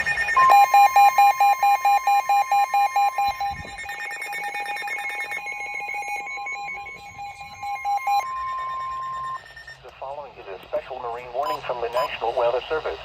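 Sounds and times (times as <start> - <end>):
pulsing electronic beeps: 0.0 - 12.2
weather radio alarm tone: 0.0 - 13.0.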